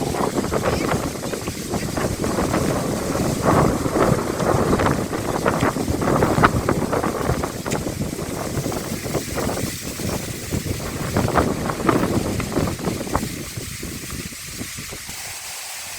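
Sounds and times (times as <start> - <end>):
muddy water splashing: 0.0 - 15.1.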